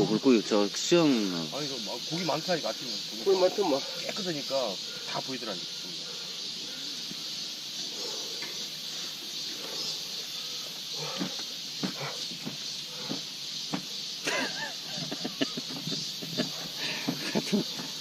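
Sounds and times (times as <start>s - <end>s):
high-pitched outdoor hiss: 0.0s - 18.0s.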